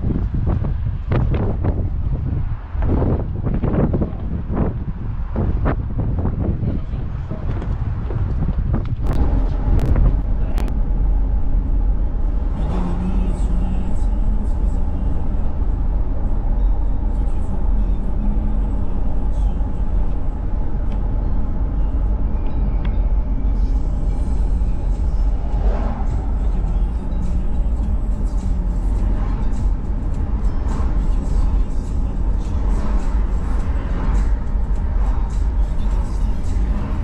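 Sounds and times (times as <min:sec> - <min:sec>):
car driving rumble from inside: 0:00.0 - 0:37.0.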